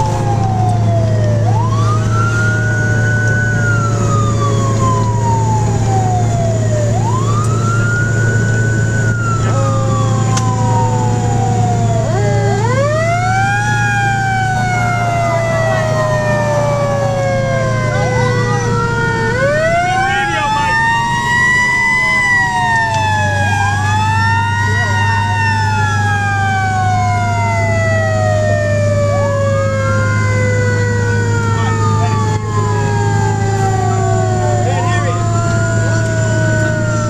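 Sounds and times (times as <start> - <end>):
engine drone inside cab: 0.0 - 37.0
fire engine siren wailing: 0.0 - 37.0.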